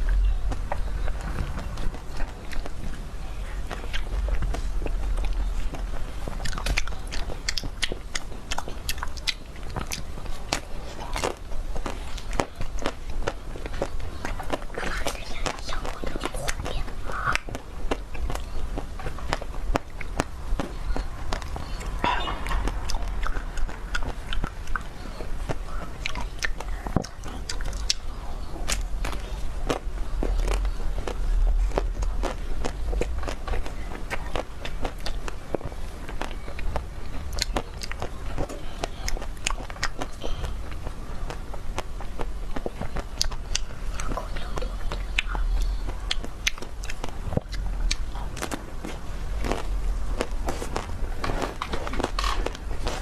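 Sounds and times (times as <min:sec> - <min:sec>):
chewing ice cream bar: 0:00.0 - 0:53.0.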